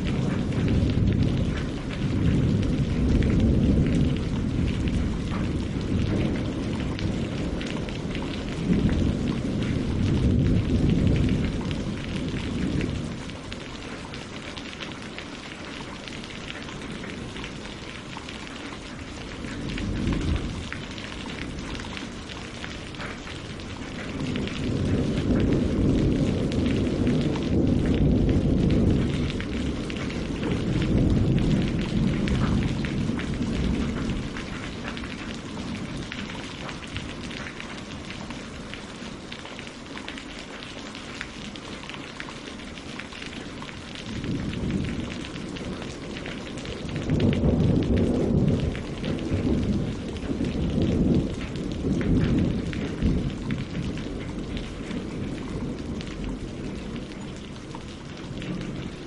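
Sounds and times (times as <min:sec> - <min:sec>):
thunder rumbling: 0:00.0 - 0:42.0, 0:42.7 - 0:59.0
rain on water and leaves: 0:00.0 - 0:59.0.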